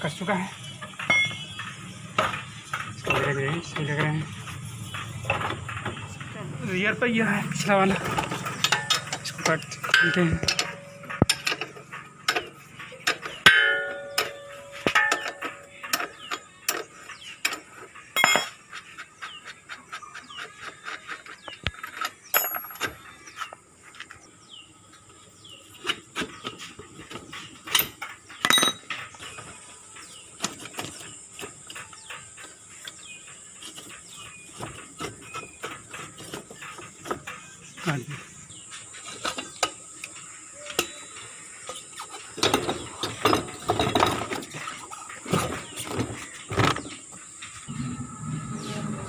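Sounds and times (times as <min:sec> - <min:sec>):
hand tools clicking and knocking metal: 0:00.0 - 0:24.2, 0:25.7 - 0:47.7.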